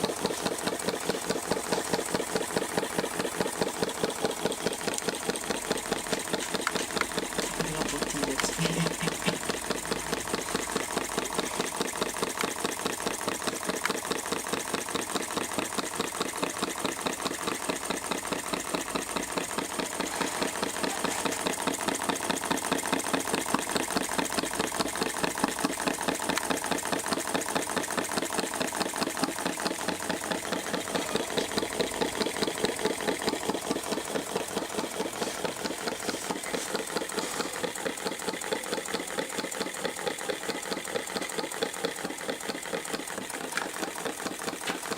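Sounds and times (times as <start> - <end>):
engine ticking clatter: 0.0 - 44.9.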